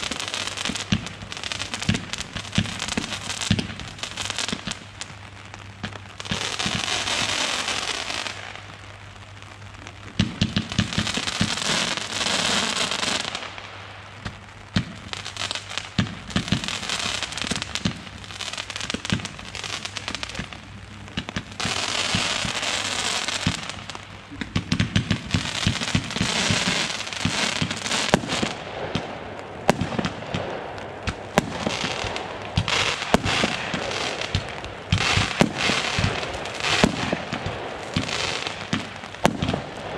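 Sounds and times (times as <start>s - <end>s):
fireworks bangs: 0.0s - 5.1s, 10.1s - 39.9s
fireworks crackling hiss: 0.0s - 39.9s.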